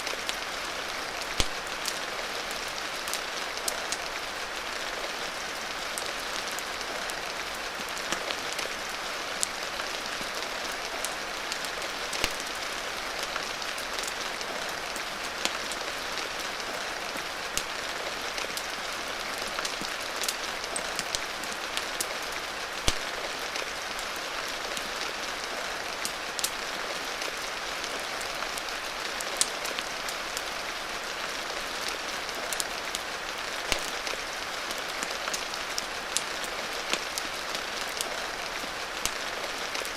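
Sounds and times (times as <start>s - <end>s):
fireplace fire crackling and popping: 0.0s - 39.9s
rain hiss: 0.0s - 39.9s.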